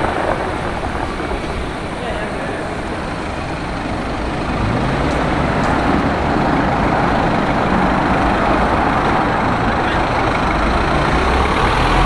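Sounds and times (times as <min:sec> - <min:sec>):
heavy engine running: 0:00.0 - 0:12.0
vehicles going by: 0:00.0 - 0:12.0.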